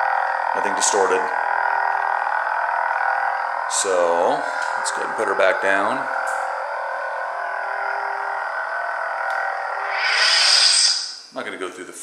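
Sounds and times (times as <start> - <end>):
lightsaber electronic hum: 0.0 - 11.7.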